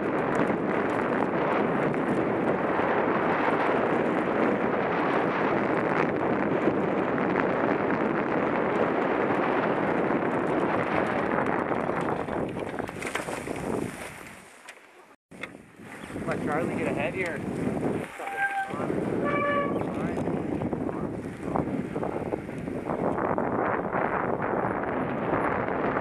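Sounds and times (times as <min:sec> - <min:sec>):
wind on microphone: 0:00.0 - 0:14.5, 0:15.3 - 0:26.0
bike tyres on dirt: 0:00.0 - 0:25.8.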